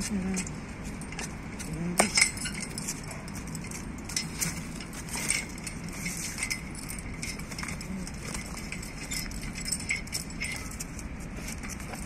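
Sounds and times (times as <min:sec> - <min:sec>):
metal chain jangling: 0:00.0 - 0:12.0.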